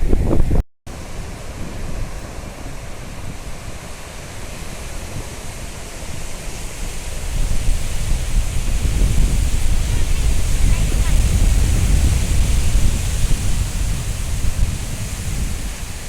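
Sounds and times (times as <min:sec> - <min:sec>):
wind buffeting microphone: 0:00.0 - 0:16.0
surf washing on beach: 0:00.9 - 0:16.0.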